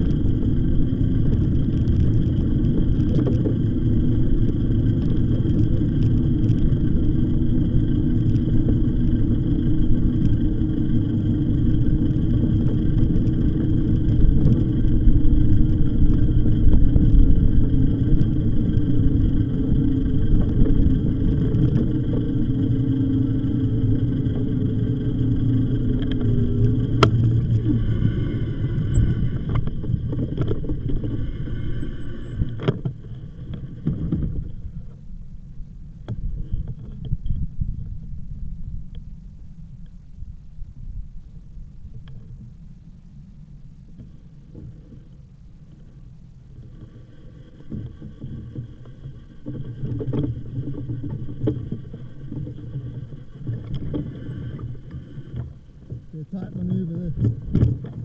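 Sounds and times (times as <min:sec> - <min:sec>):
bike riding rumble: 0:00.0 - 0:58.0
e-bike motor hum: 0:00.0 - 0:58.0.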